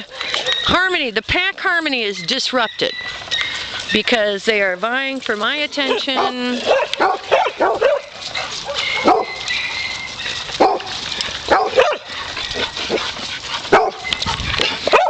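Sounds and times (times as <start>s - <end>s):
dogs barking and yipping: 0.0s - 1.2s, 1.9s - 15.0s.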